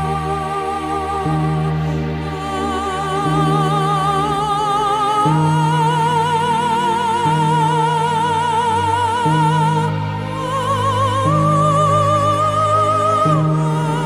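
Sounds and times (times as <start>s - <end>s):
slow calm background music: 0.0s - 14.0s.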